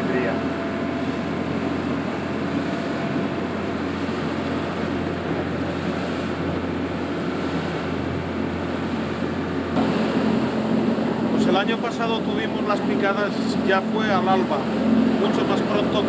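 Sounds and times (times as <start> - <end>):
motorboat engine droning: 0.0 - 16.0
water wash: 0.0 - 16.0.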